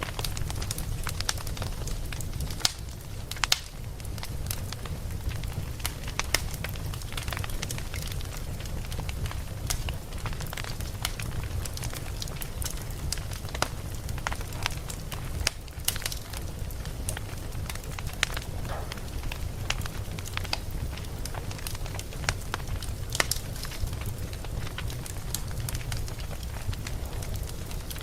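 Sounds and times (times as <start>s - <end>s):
low fire rumble: 0.0s - 28.0s
wood fire crackling and popping: 0.0s - 28.0s.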